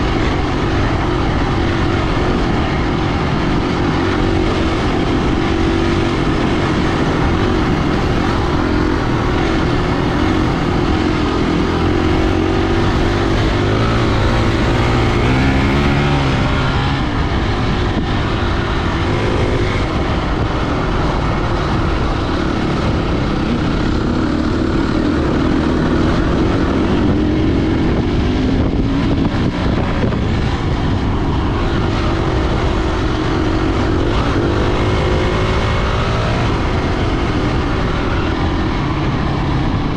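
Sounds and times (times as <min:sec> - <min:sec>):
engine running: 0:00.0 - 0:39.9
heavy wind rushing: 0:00.0 - 0:39.9.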